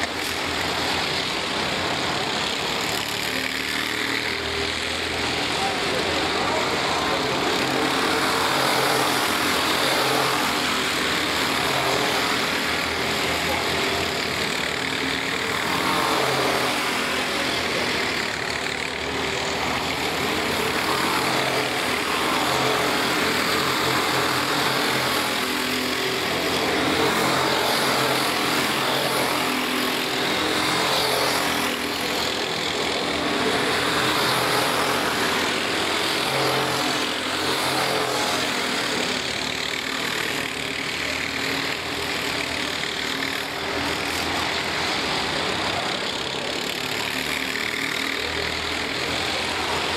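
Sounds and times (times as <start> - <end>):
distant drone of karts: 0.0 - 49.9
go-kart engines accelerating: 0.0 - 49.9.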